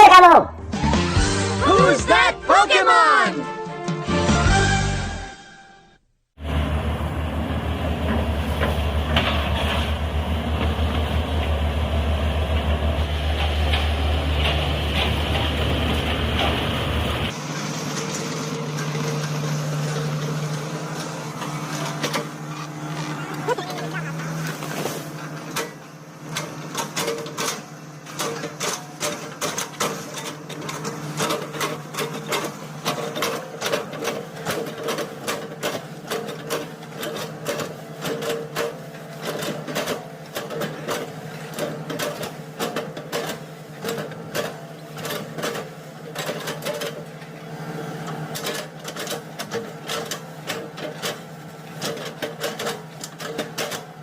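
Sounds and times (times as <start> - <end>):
excavator engine running: 6.4 - 54.0.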